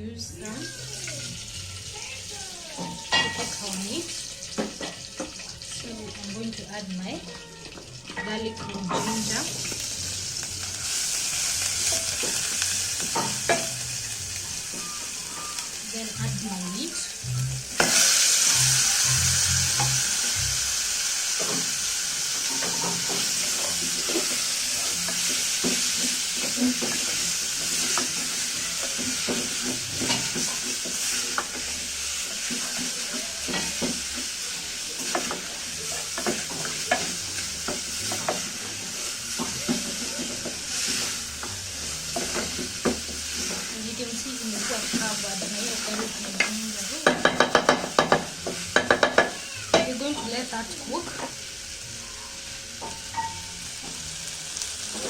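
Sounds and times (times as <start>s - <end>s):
meat sizzling in hot oil: 0.1s - 55.0s.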